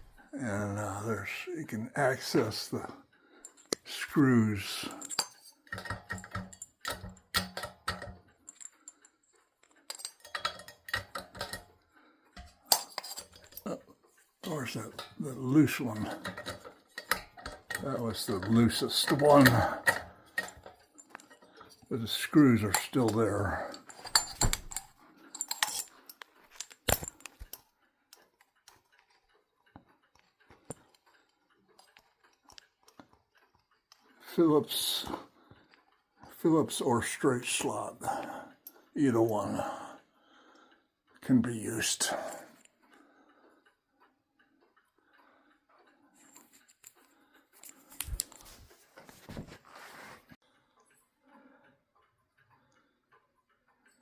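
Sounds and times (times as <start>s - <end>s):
light metallic clicks and clinks: 0.0s - 40.0s, 40.6s - 49.4s.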